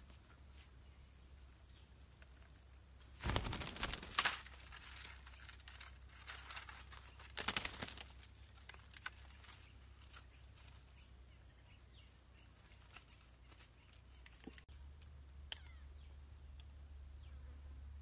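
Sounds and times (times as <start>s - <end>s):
rustling among leafy branches: 0.0s - 14.5s.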